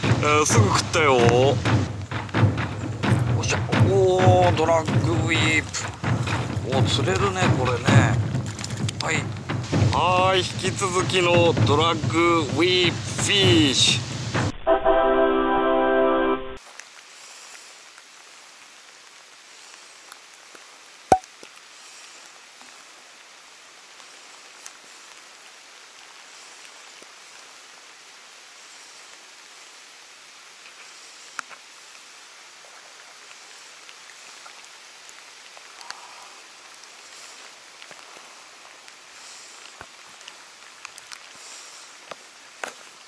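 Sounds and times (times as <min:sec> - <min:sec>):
light rain hiss: 0:00.0 - 0:14.5, 0:15.7 - 0:43.0.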